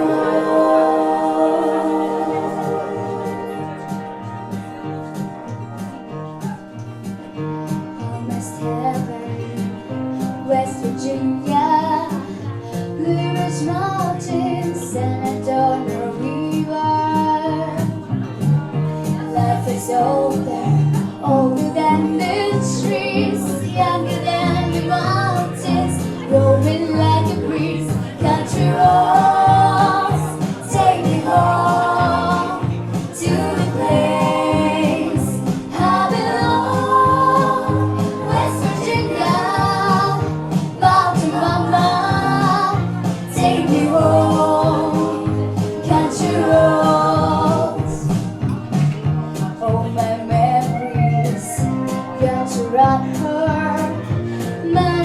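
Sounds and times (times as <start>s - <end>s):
women singing: 0.0s - 4.2s, 8.0s - 9.8s, 10.4s - 18.1s, 19.0s - 48.7s, 49.4s - 55.0s
instrumental accompaniment: 0.0s - 14.2s, 20.5s - 50.6s.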